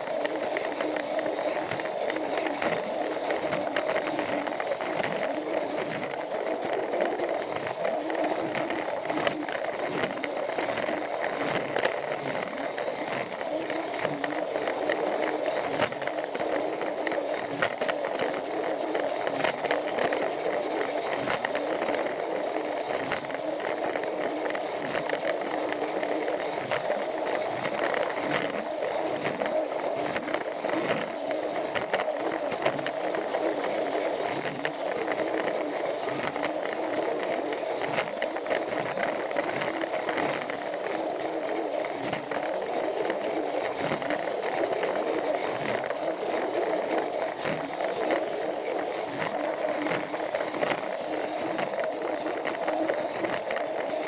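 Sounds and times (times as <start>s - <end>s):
toy train motor whirring: 0.0s - 53.9s.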